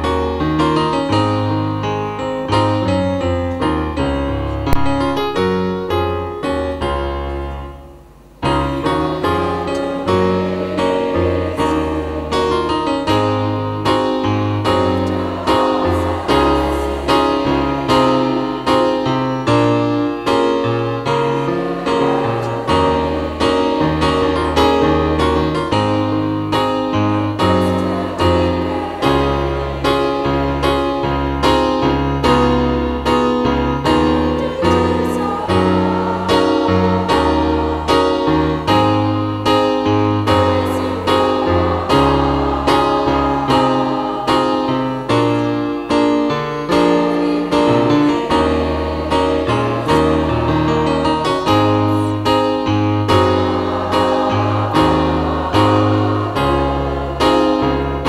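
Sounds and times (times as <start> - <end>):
instrumental keyboard music: 0.0 - 58.0.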